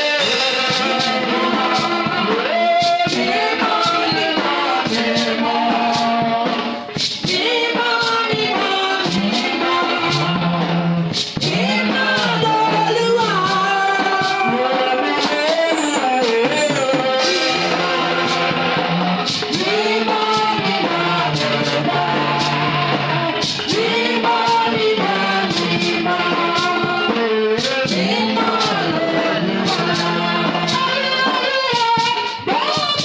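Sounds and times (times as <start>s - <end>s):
band playing worship music: 0.0s - 33.0s
regular drum beat: 0.0s - 33.0s
voices singing: 0.0s - 33.0s.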